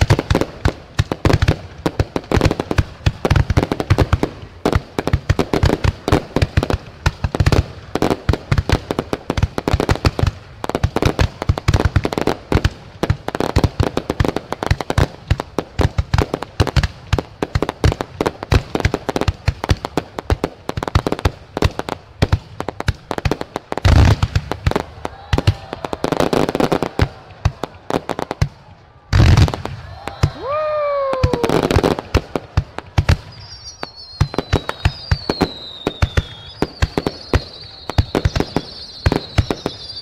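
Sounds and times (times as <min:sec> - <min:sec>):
fireworks bangs and pops: 0:00.0 - 0:40.0.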